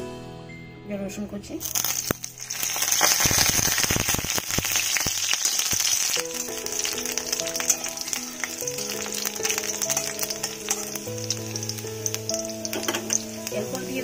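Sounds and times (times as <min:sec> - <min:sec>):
soft background music: 0:00.0 - 0:14.0
garlic sizzling in hot oil: 0:01.6 - 0:14.0.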